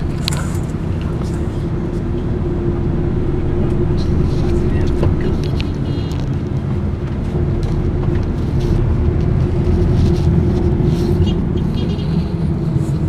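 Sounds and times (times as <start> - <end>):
road rumble: 0.0 - 13.0
van engine drone: 0.0 - 13.0.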